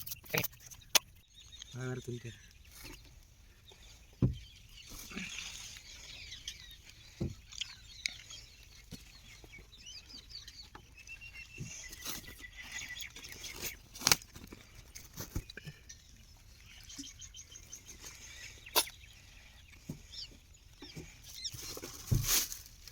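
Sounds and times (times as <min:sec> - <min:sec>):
birds calling: 0:00.0 - 0:22.9.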